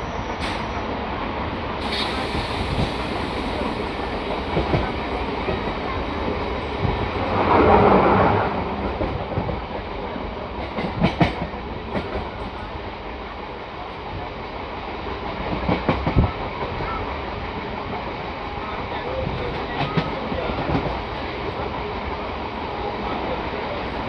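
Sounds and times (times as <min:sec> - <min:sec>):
train rumbling along track: 0:00.0 - 0:24.0.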